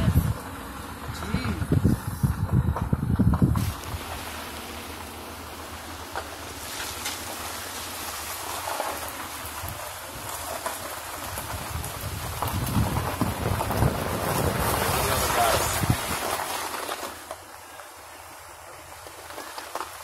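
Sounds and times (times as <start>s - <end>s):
engine and tyres humming: 0.0s - 20.0s
gravel and air rushing: 0.0s - 20.0s.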